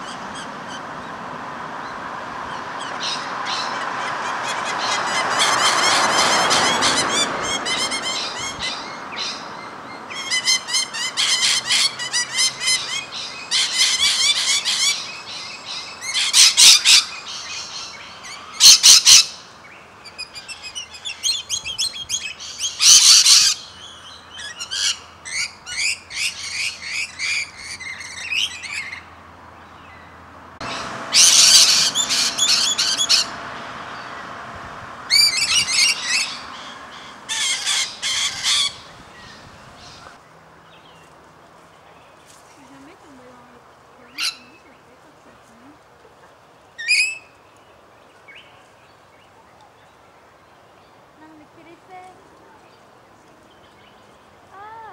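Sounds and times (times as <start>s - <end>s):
lorikeets chattering and squawking: 0.0s - 1.2s, 1.8s - 34.5s, 35.1s - 41.0s, 42.0s - 47.5s.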